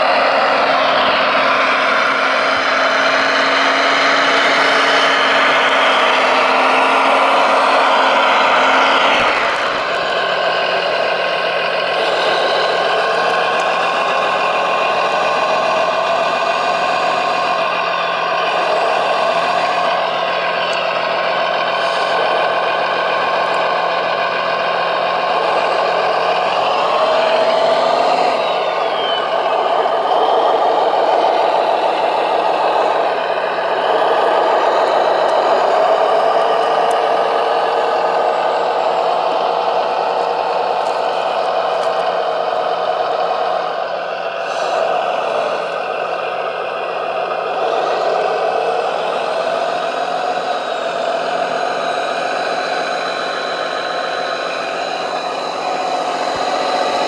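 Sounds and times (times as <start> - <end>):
model truck mechanical drone: 0.0 - 57.0.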